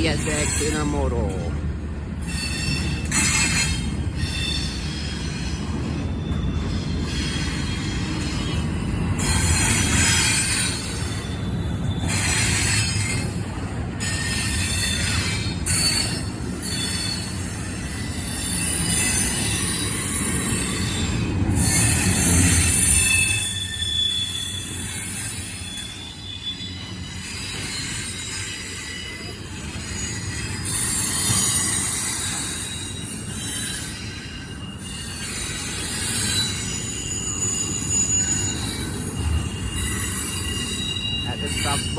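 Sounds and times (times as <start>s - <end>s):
freight train rumbling: 0.0s - 41.9s
wheels hissing on rail: 0.0s - 41.9s.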